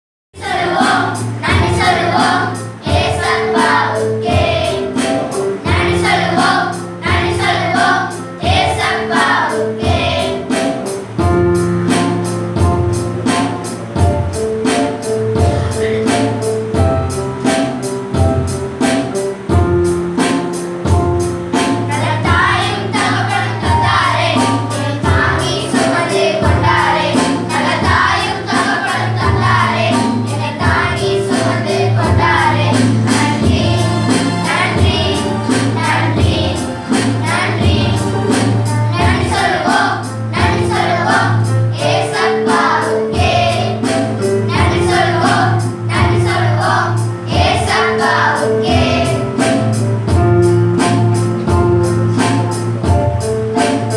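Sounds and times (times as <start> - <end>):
choir singing gospel: 0.4 - 16.8, 17.4 - 53.9
held keyboard notes: 0.4 - 53.9
steady percussion beat: 0.4 - 53.9.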